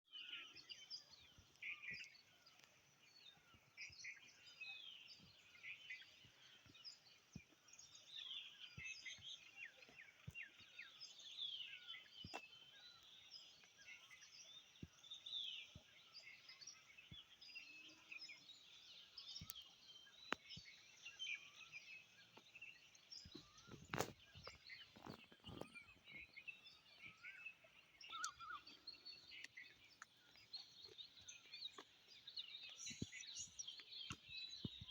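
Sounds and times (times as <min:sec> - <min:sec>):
small songbirds chirping: 0:00.0 - 0:34.9.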